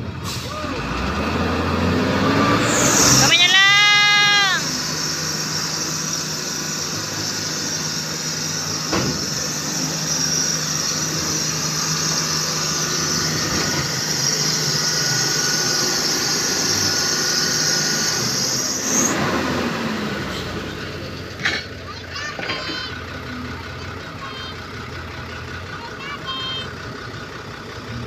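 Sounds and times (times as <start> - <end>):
diesel engines running: 0.0 - 28.0.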